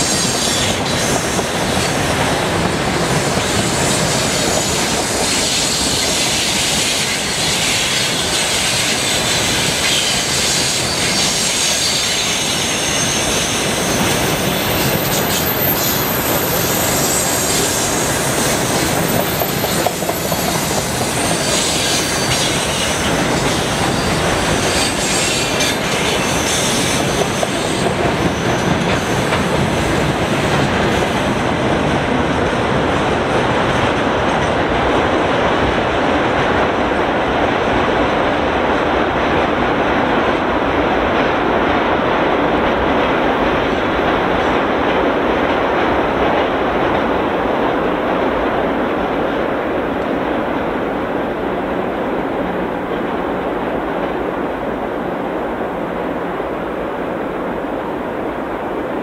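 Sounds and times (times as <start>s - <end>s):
freight train wheels clattering on rails: 0.0s - 50.8s.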